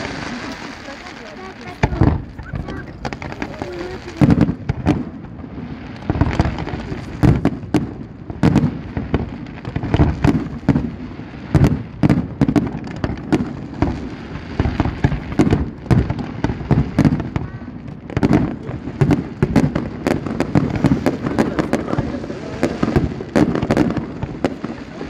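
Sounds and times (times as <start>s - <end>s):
fireworks launching and bursting: 0.0s - 25.0s.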